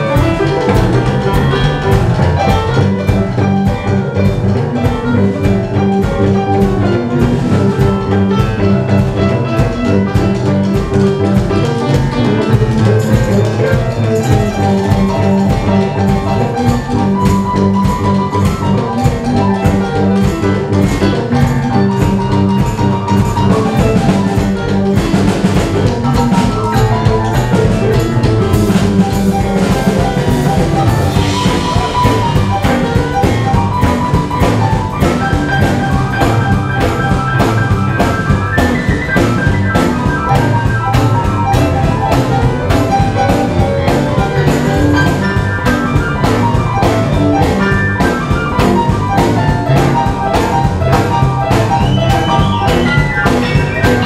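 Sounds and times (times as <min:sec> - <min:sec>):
bass: 0:00.0 - 0:54.0
keyboards playing: 0:00.0 - 0:54.0
steady drum beat: 0:00.0 - 0:54.0.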